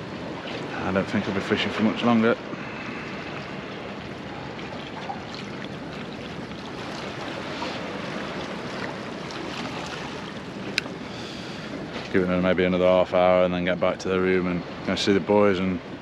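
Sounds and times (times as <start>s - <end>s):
sea water washing against boulders: 0.0s - 13.6s
wind: 0.0s - 16.0s.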